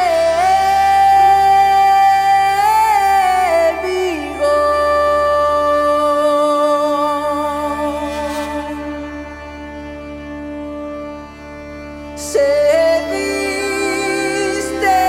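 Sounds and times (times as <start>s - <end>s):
medieval song: 0.0s - 15.0s
steady low drone: 0.0s - 15.0s.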